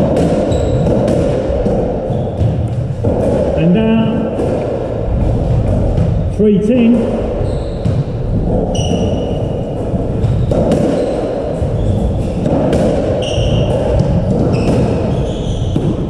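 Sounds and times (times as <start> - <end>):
shoes squeaking on wooden floor: 0.0 - 6.4, 7.0 - 16.0
knocks and thuds: 0.0 - 16.0.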